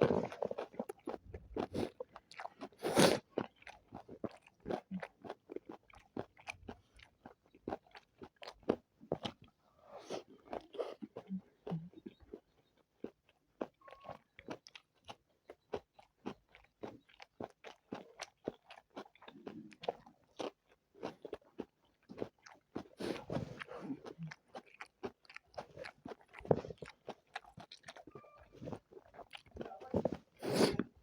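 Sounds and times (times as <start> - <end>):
chewing with wet mouth clicks: 0.0 - 31.0.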